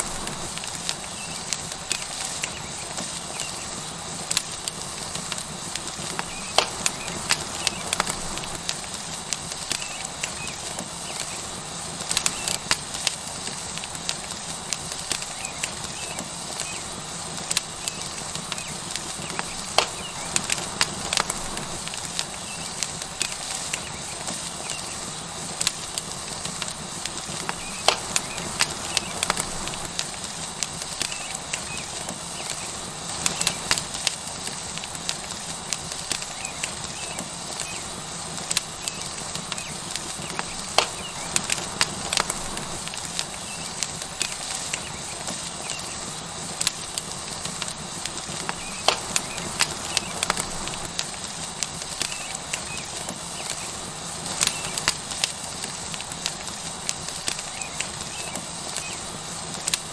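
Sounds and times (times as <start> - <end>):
steak sizzling on hot rock: 0.0 - 59.9
wood fire crackling and popping: 0.0 - 59.9.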